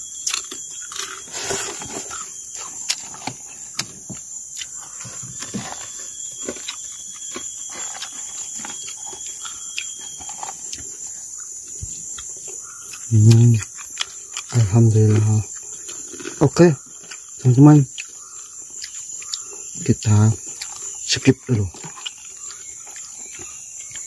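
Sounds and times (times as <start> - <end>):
chewing and mouth sounds: 0.0 - 21.1, 21.7 - 24.0
chorus of night insects: 0.0 - 24.0.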